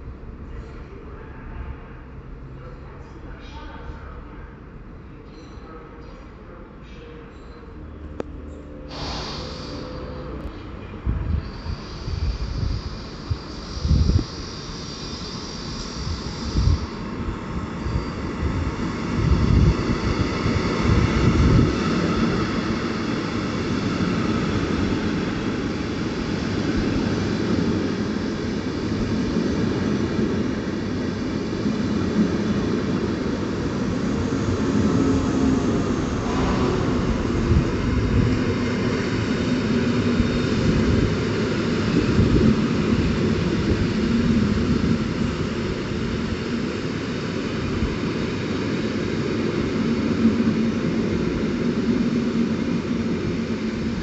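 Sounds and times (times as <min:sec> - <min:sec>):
low electric train hum: 0:00.0 - 0:54.0
train wheels rumbling on rails: 0:08.9 - 0:54.0.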